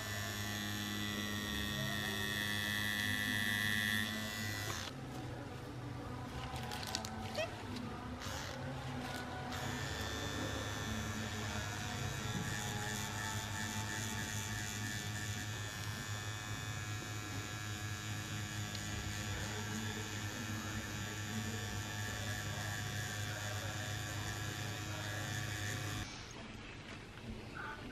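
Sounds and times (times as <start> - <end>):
tattoo machine electric hum: 0.0 - 5.0, 8.2 - 26.1.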